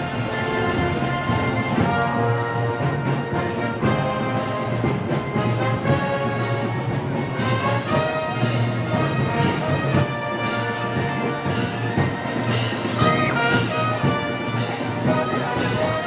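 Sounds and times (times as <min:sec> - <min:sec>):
brass chords: 0:00.0 - 0:16.0.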